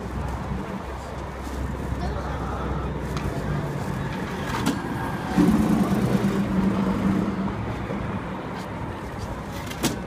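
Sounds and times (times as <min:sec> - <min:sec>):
bus engine droning: 0:00.0 - 0:10.0
traffic hum: 0:00.0 - 0:10.0.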